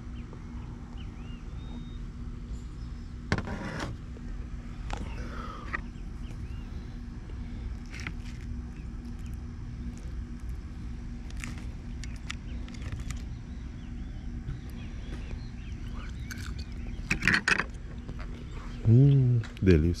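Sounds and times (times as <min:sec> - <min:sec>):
birds chirping: 0:00.0 - 0:03.3, 0:04.6 - 0:20.0
low hum and rumble: 0:00.0 - 0:20.0.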